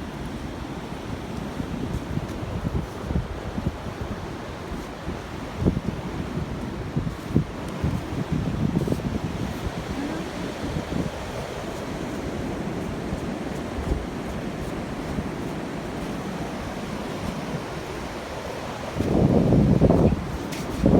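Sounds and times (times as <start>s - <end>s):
wind buffeting microphone: 1.2s - 20.9s.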